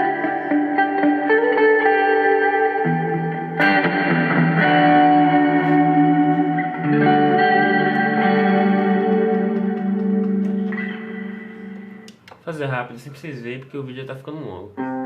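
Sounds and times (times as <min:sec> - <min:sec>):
electric guitar chords: 0:00.0 - 0:12.3, 0:14.8 - 0:15.0.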